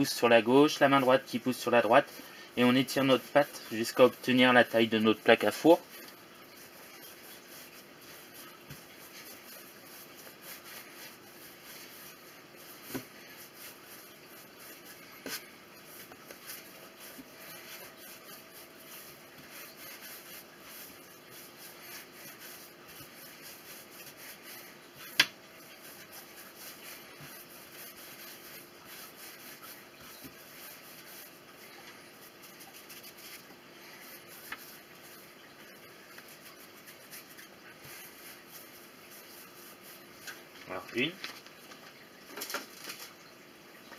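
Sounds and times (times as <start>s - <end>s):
hands rubbing bread dough: 0.0s - 43.2s.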